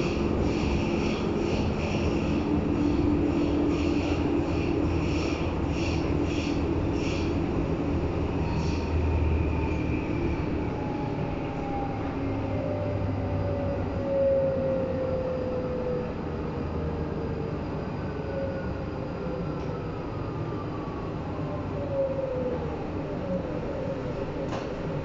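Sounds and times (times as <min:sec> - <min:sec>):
train wheels rumbling on track: 0:00.0 - 0:21.6, 0:22.3 - 0:25.0.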